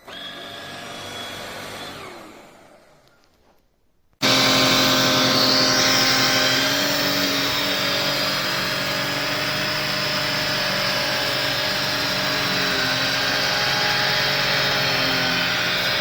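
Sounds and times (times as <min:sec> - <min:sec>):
vacuum cleaner running: 0:00.0 - 0:03.1, 0:04.2 - 0:16.0.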